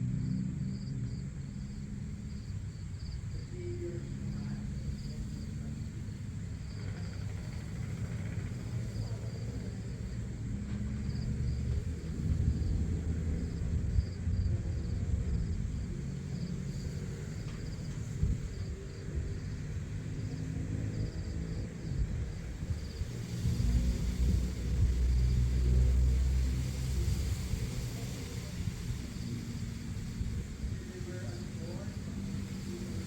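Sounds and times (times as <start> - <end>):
insect chirp pulsing: 0.0 - 33.0
steady low rumble: 0.0 - 33.0.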